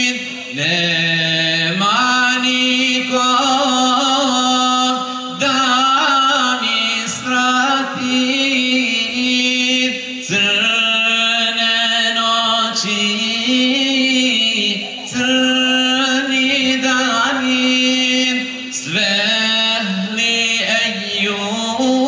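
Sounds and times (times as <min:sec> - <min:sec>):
male group chanting a hymn: 0:00.0 - 0:22.0.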